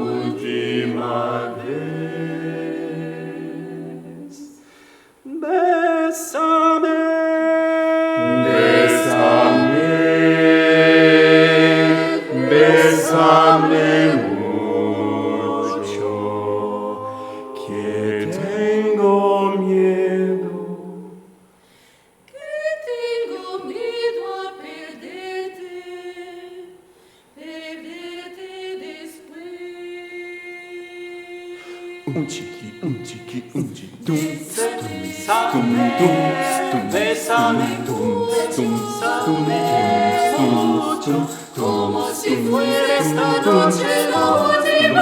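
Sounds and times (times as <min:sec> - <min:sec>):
vocal ensemble singing in harmony: 0:00.0 - 0:45.0.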